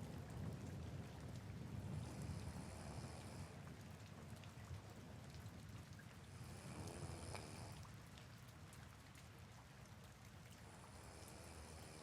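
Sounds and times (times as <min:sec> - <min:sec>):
soft rain hiss: 0:00.0 - 0:12.0.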